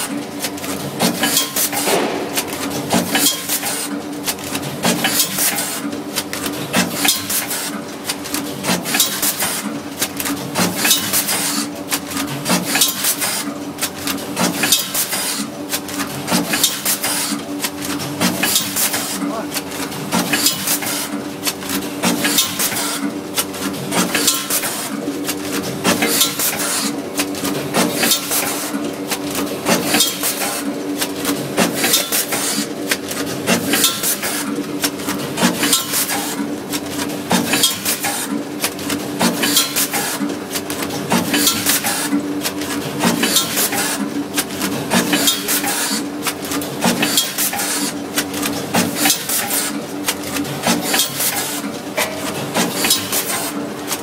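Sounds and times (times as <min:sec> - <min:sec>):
packing machine hum: 0:00.0 - 0:54.0.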